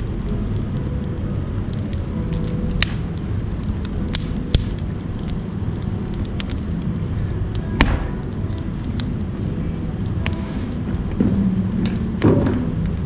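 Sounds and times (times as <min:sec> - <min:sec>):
fire roaring in stove: 0:00.0 - 0:13.0
wood popping and crackling: 0:00.0 - 0:13.0.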